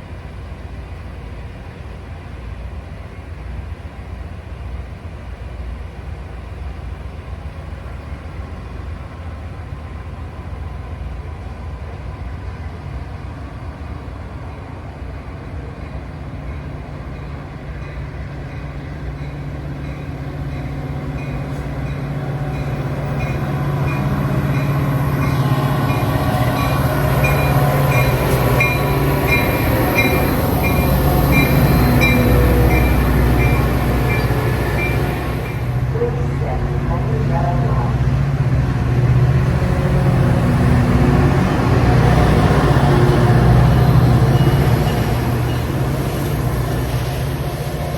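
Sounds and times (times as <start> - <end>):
train engine hum: 0.0 - 47.9.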